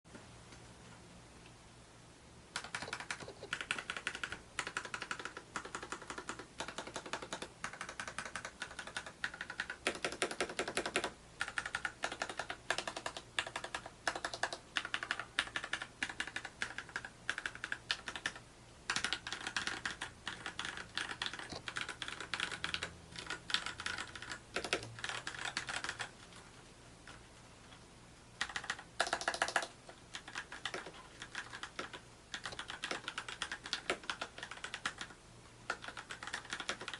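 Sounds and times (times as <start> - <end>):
mechanical keyboard typing: 2.6 - 26.4, 28.4 - 36.9.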